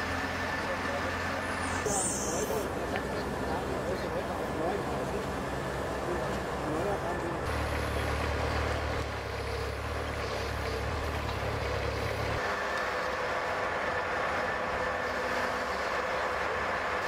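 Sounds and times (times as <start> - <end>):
engine and hydraulics running: 0.0 - 17.0.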